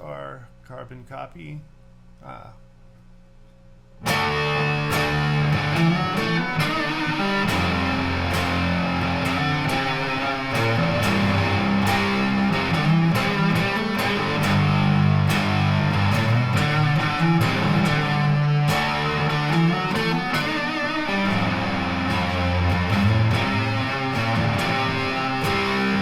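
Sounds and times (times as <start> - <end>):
fuzzed electric guitar: 4.0 - 26.0.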